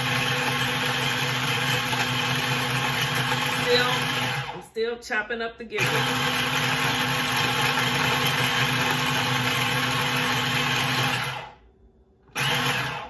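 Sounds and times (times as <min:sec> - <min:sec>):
electric food chopper running: 0:00.0 - 0:04.7, 0:05.8 - 0:11.6, 0:12.2 - 0:13.0.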